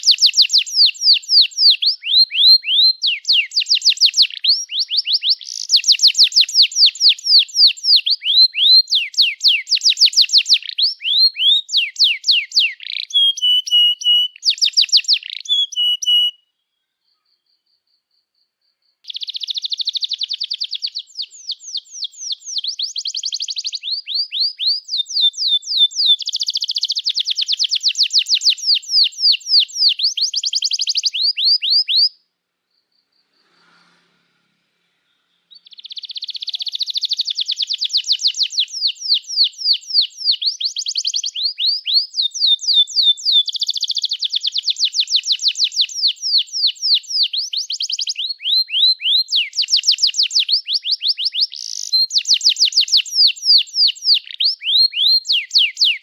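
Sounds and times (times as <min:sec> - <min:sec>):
canary singing: 0:00.0 - 0:17.2, 0:19.0 - 0:32.2, 0:35.4 - 0:56.0.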